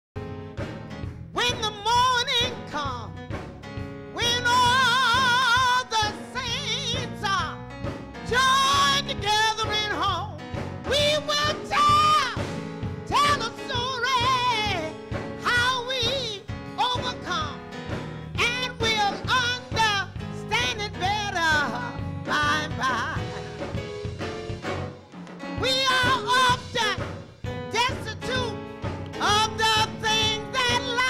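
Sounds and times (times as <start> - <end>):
person singing gospel style: 1.4 - 3.3, 4.1 - 23.9, 25.5 - 31.0.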